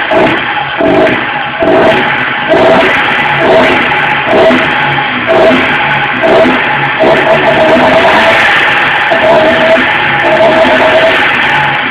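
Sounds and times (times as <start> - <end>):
rock music with distorted guitar: 0.0 - 11.9.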